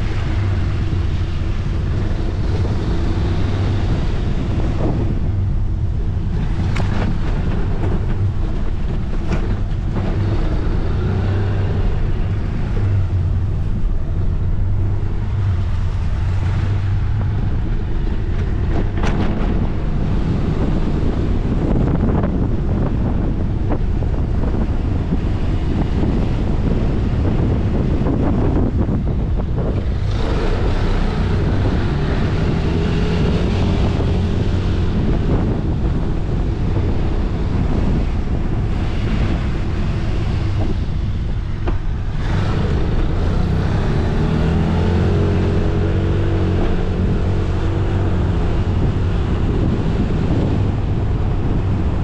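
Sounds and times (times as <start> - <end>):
wind buffeting on microphone: 0.0 - 52.0.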